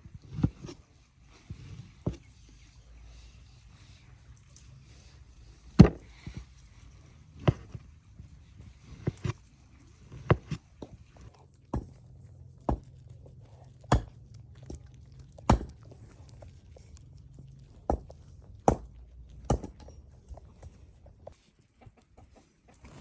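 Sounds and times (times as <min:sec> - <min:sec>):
low steady hum: 0:00.0 - 0:21.4.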